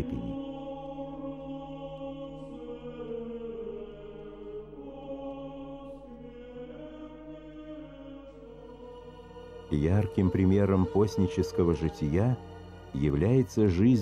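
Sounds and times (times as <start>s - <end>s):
choral chanting music: 0.0s - 14.0s.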